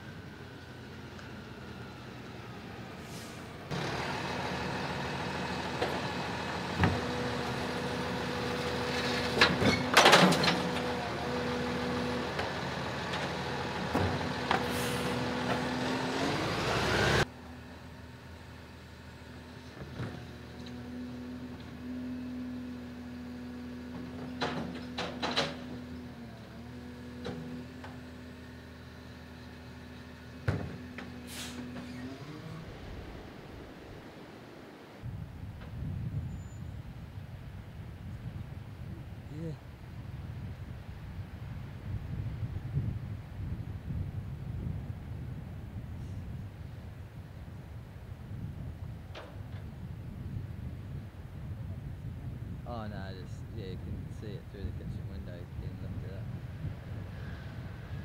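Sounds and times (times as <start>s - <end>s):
rubbish truck mechanical hum: 0.0s - 58.0s.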